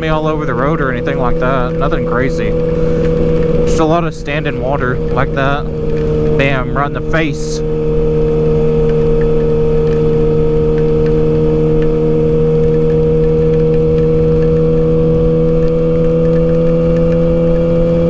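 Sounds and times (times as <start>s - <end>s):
low wind rumble: 0.0s - 18.0s
motorcycle engine cruising: 0.0s - 18.0s.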